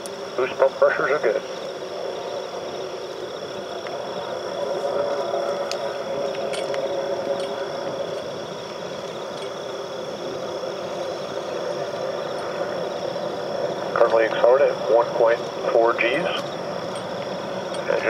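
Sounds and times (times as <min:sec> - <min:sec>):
distant rocket engine rumble: 0:00.0 - 0:18.0
high insect trill: 0:00.0 - 0:18.0.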